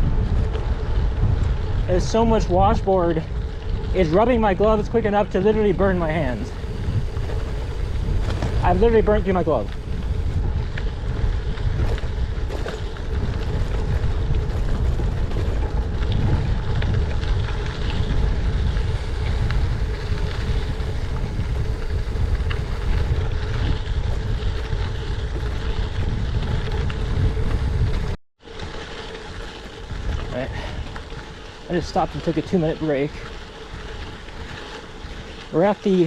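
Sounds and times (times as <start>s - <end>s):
bike rumbling over gravel: 0.0s - 36.0s
wind rushing over microphone: 0.0s - 36.0s.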